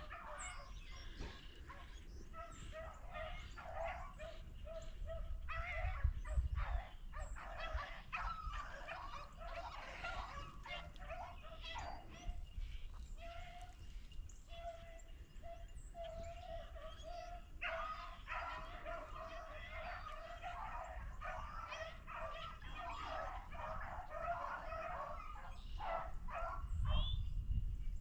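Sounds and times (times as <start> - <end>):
hounds baying: 0.0 - 27.1.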